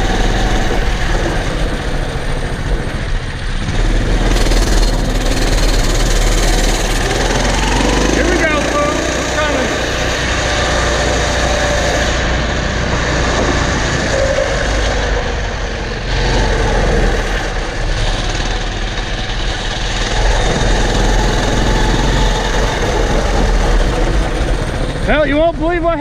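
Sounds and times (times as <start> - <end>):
engine running with deep hum: 0.0 - 25.8.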